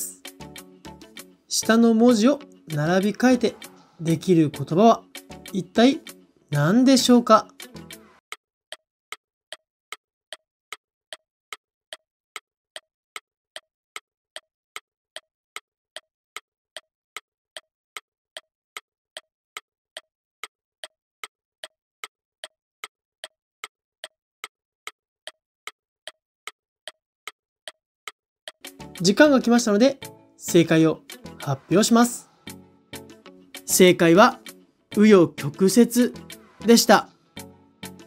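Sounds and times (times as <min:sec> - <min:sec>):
clock ticking: 0:00.0 - 0:32.2, 0:33.0 - 0:38.0.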